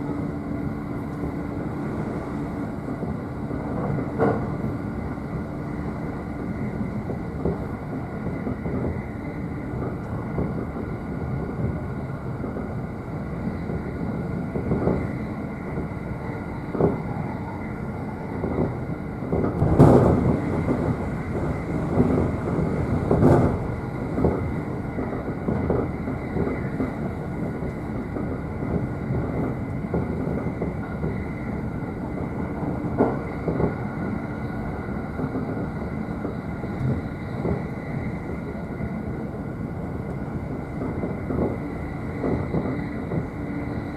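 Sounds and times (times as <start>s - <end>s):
train running rumble: 0.0s - 43.9s.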